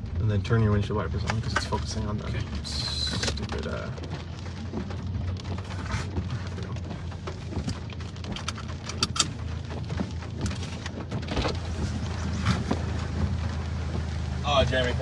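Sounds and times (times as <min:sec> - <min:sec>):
low rumble inside car: 0:00.0 - 0:15.0
raindrops ticking on car: 0:00.0 - 0:15.0.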